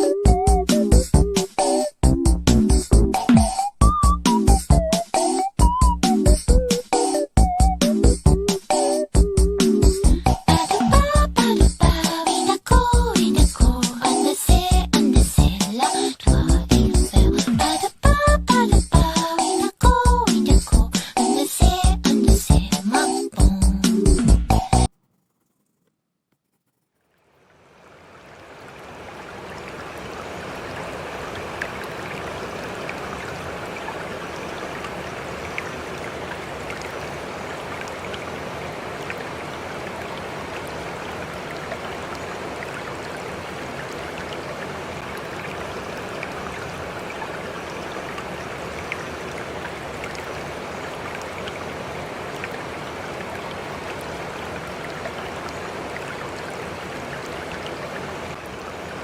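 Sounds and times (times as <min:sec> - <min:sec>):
rushing water: 0:00.0 - 0:24.3, 0:27.3 - 0:59.0.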